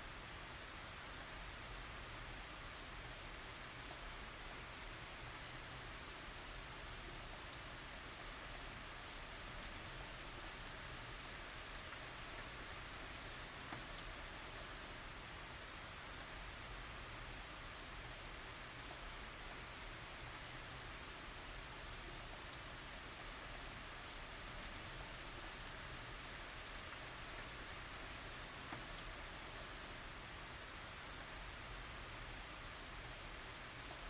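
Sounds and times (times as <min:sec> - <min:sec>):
light rain falling: 0:00.0 - 0:34.0.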